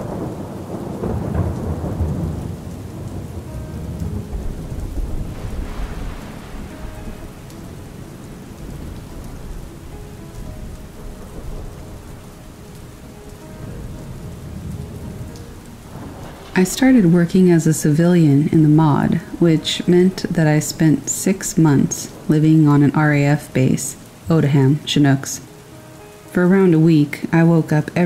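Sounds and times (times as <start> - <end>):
low roll of thunder: 0.0 - 23.8
steady rain falling: 0.0 - 28.0.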